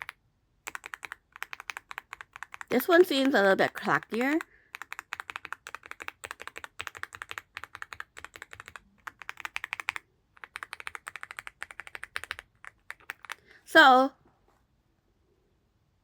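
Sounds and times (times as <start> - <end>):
mechanical keyboard typing: 0.0 - 13.4.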